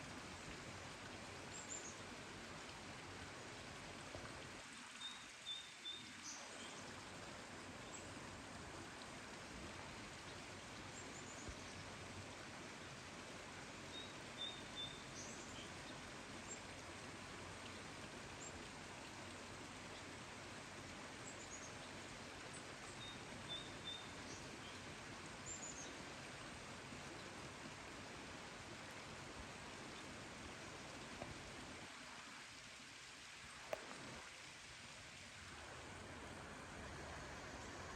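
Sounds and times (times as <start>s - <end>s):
faint hiss of rain: 0.0s - 37.9s.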